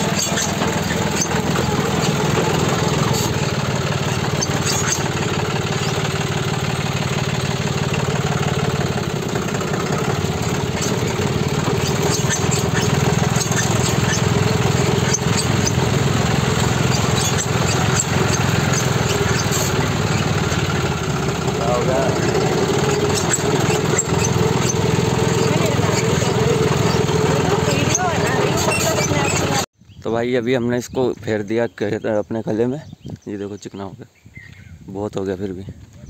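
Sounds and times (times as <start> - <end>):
tractor diesel engine running: 0.0 - 29.7.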